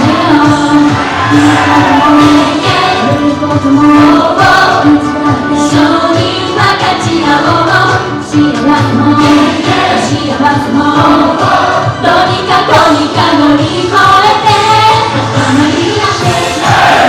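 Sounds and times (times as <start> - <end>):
pop backing track: 0.0 - 17.0
women singing together: 0.0 - 17.0.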